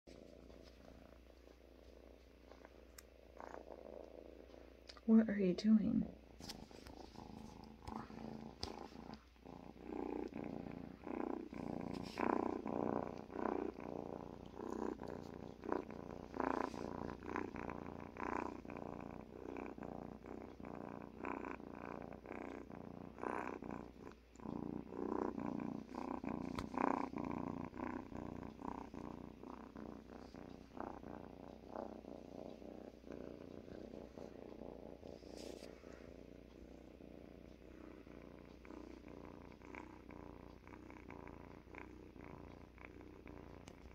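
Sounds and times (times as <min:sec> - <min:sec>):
cat purring: 0:00.0 - 0:43.9
small clicks and rustles: 0:00.1 - 0:05.1, 0:06.2 - 0:43.9.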